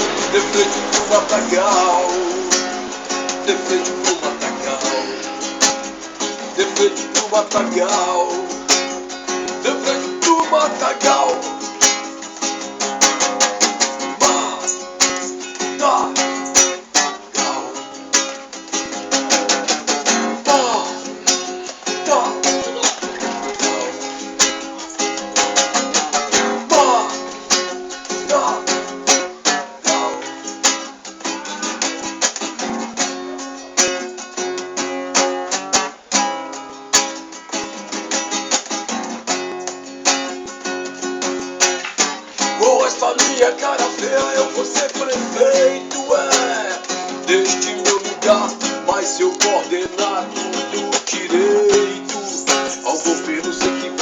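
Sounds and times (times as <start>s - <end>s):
plucked and strummed strings: 0.0s - 54.0s.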